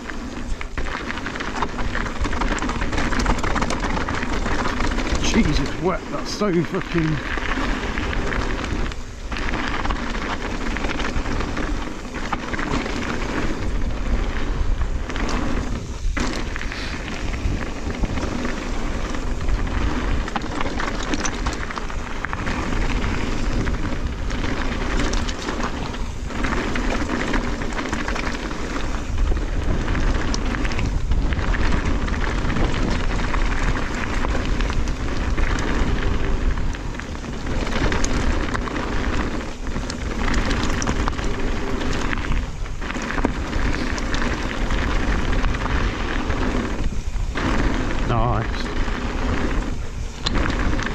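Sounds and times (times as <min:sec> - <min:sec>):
bike rattling: 0:00.0 - 0:50.9
tyres rumbling over rocks: 0:00.0 - 0:50.9
wind on microphone: 0:00.0 - 0:50.9.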